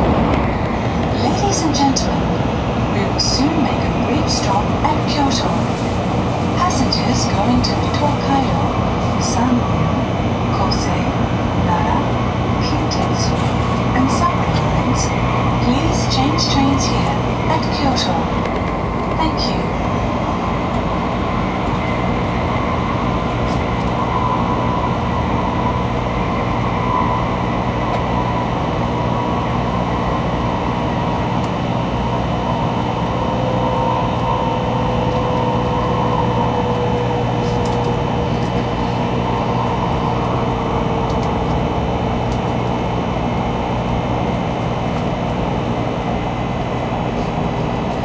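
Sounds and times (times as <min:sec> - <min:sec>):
faint train whine: 0:00.0 - 0:48.0
train running gear rumble: 0:00.0 - 0:48.0.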